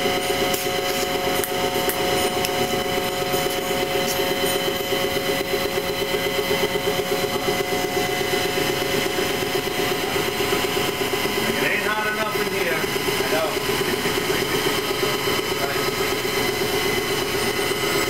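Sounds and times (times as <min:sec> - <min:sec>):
blower fans humming: 0:00.0 - 0:18.0.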